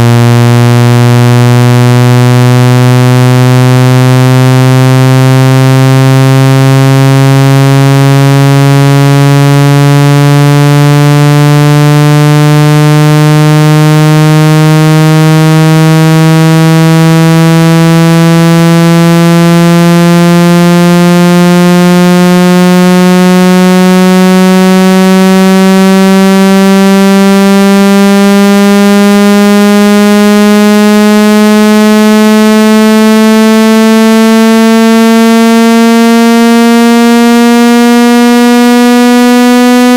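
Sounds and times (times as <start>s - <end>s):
buzzing electronic tone rising: 0.0s - 39.9s.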